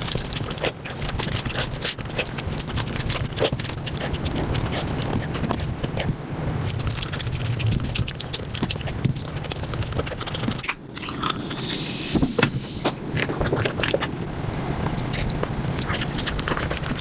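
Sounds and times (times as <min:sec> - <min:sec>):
sped-up chewing and crunching: 0:00.0 - 0:11.8, 0:12.9 - 0:17.0.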